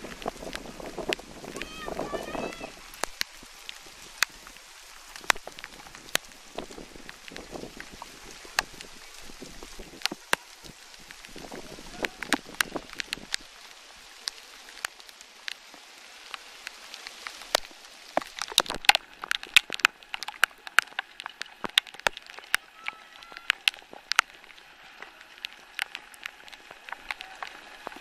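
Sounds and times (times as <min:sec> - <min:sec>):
raindrops tapping near microphone: 0:00.0 - 0:28.0
steady rain hiss: 0:00.0 - 0:28.0.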